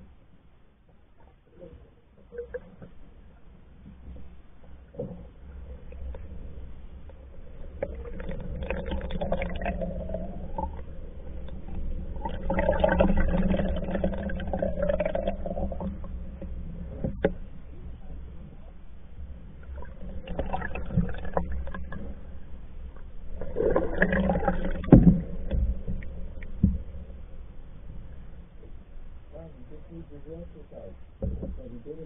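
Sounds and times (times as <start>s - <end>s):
muffled water rushing along hull: 0.0s - 32.0s
low rumble: 2.6s - 32.0s.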